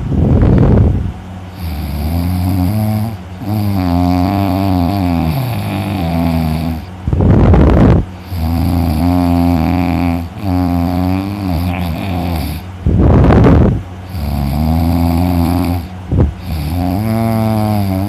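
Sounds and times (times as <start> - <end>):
person snoring: 1.5 - 6.9, 7.5 - 18.0.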